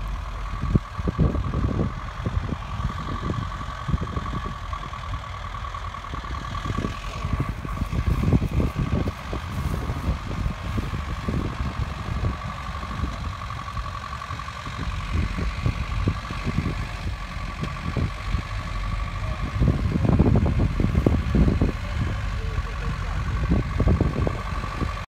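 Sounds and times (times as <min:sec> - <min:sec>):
off-road vehicle engines rumbling: 0:00.0 - 0:25.0
steady whine: 0:00.0 - 0:25.0.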